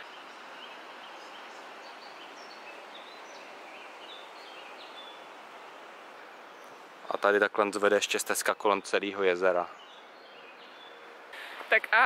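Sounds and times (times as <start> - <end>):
steady rushing hiss: 0.0 - 9.9
small birds chirping: 0.0 - 12.0.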